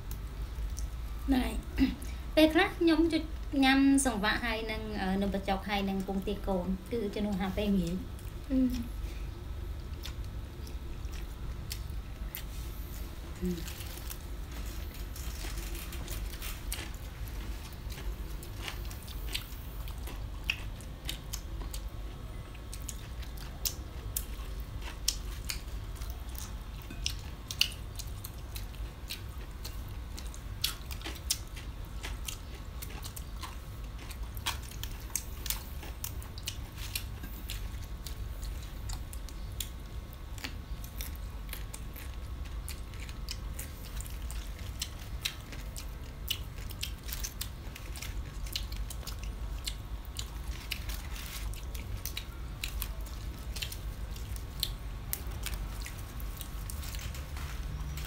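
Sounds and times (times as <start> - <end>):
people chewing crunchy food: 0.0 - 58.0
steady low hum: 0.0 - 58.0.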